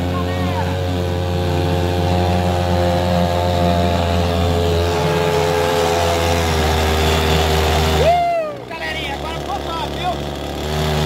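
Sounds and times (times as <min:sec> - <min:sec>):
two-stroke outboard motor running: 0:00.0 - 0:11.0.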